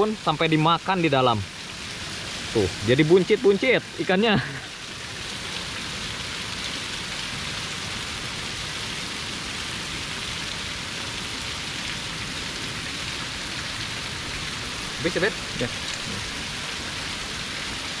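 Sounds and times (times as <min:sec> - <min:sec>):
water rushing over weir: 0:00.0 - 0:18.0.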